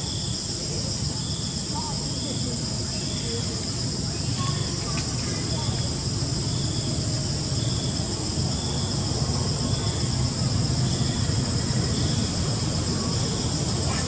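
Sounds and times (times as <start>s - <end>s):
high-pitched insect chorus: 0.0s - 14.0s
short insect call: 0.0s - 14.0s.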